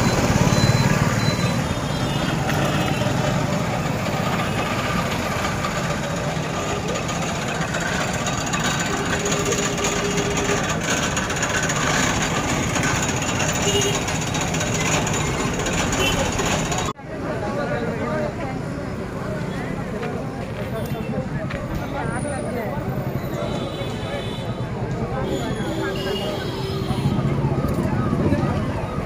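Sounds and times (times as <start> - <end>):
many voices talking: 0.0 - 29.0
vehicle engine noise: 0.0 - 29.0.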